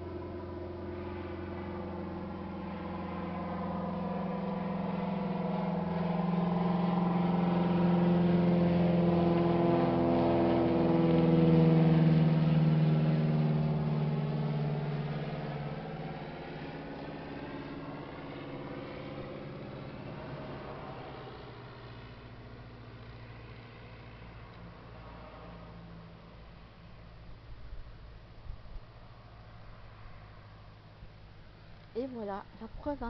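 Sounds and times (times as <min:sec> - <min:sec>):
low-flying aircraft engine drone: 0:00.0 - 0:33.0.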